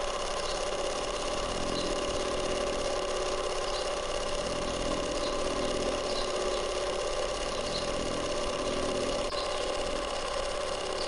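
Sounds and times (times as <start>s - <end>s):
small water pump motor humming: 0.0s - 11.0s.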